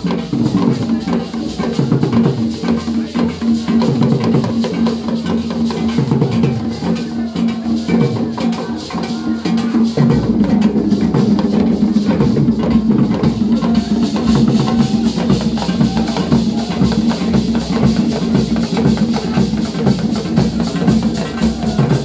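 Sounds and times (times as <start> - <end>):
hand drum ensemble: 0.0 - 22.0.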